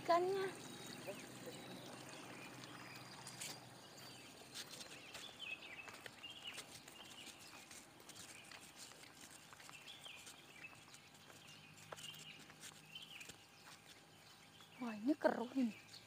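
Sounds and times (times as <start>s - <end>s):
small birds chirping: 0.0s - 16.0s
footsteps on pavement: 1.5s - 16.0s.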